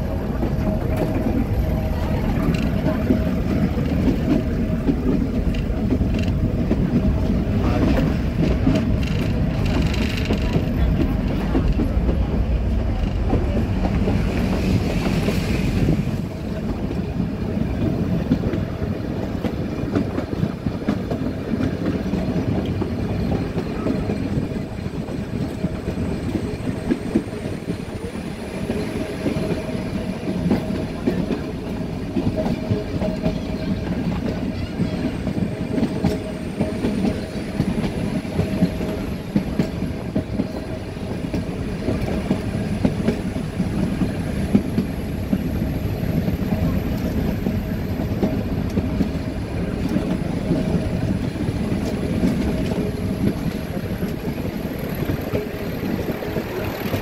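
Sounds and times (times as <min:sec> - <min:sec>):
train coaches rumbling and clattering: 0:00.0 - 0:57.0.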